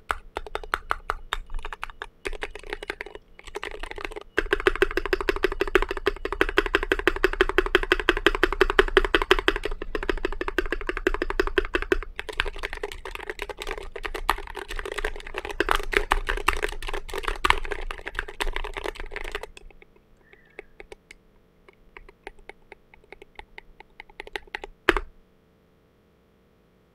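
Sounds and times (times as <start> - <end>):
fast mechanical keyboard typing: 0.0 - 25.1.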